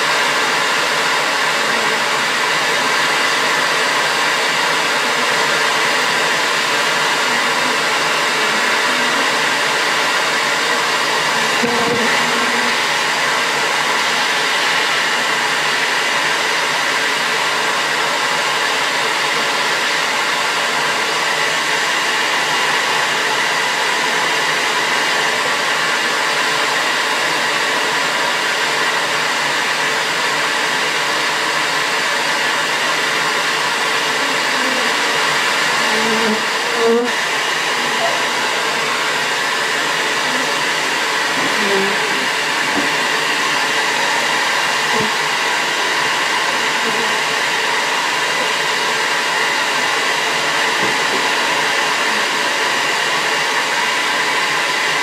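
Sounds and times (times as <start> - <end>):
vacuum motor drone: 0.0 - 55.0.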